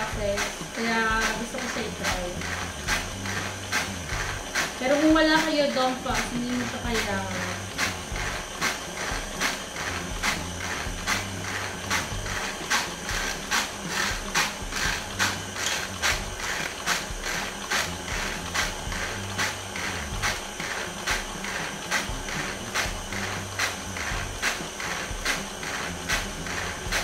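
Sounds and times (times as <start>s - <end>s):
sifter mechanism clicking: 0.0s - 27.0s
stand mixer motor hum: 0.0s - 27.0s.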